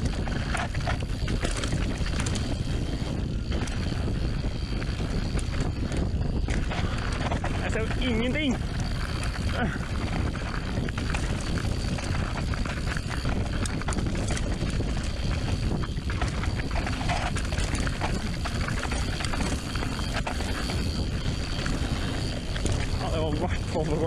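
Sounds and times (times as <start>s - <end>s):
bike rattling over bumps: 0.0s - 24.0s
wind rushing over microphone: 0.0s - 24.0s.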